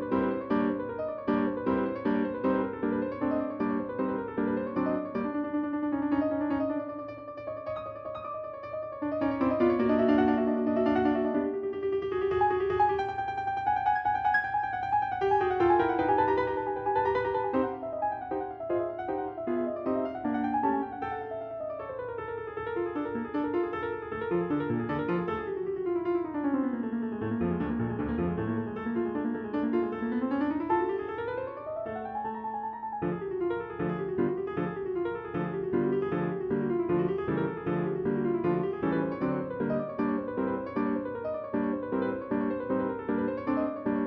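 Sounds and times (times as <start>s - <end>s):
piano music with quick runs: 0.0s - 44.0s.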